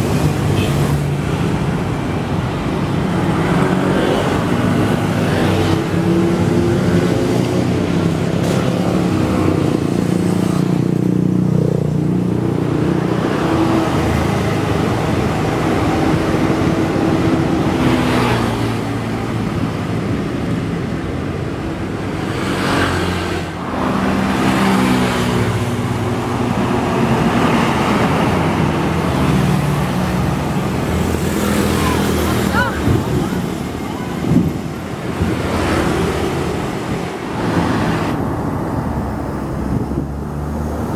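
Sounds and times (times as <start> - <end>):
highway traffic passing: 0.0 - 40.9.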